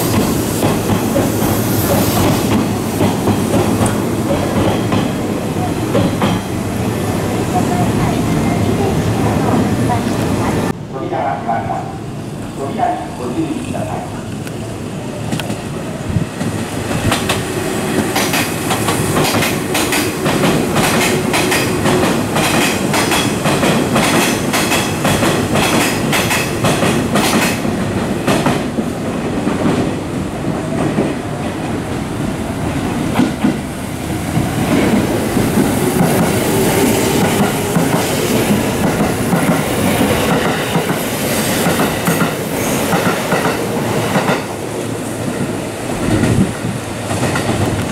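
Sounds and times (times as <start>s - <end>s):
electric train passing: 0.0s - 47.9s.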